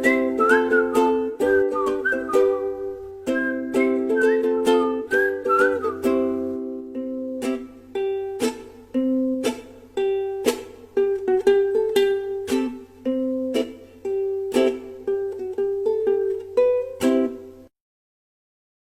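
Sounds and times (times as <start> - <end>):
ukulele strumming chords: 0.0 - 17.7.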